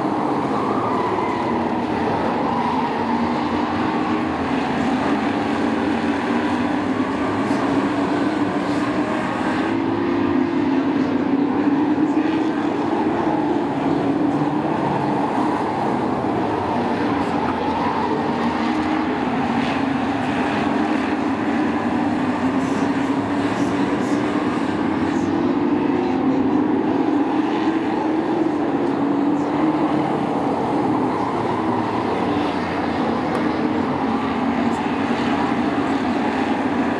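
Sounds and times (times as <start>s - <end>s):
race truck engines droning: 0.0s - 36.9s.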